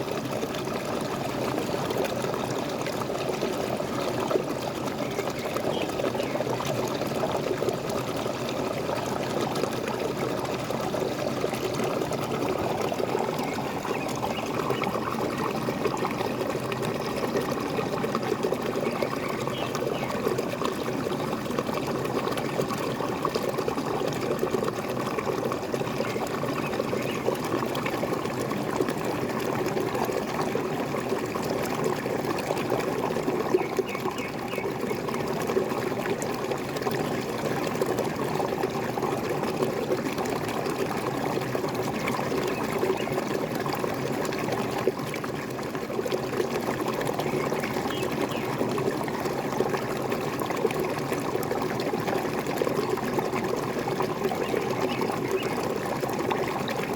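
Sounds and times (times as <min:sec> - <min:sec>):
waterfall splashing and gurgling: 0:00.0 - 0:56.9.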